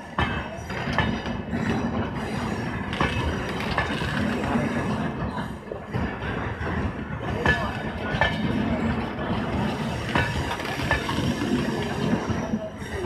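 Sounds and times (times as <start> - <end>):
train wheels rumbling on rails: 0.0 - 13.0
wheels clanking over track joints: 0.0 - 13.0.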